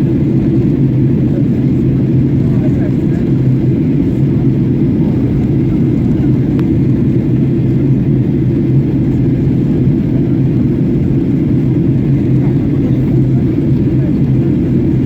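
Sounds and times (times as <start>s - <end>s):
constant low hum: 0.0s - 15.0s
jet engine rumble in cabin: 0.0s - 15.0s.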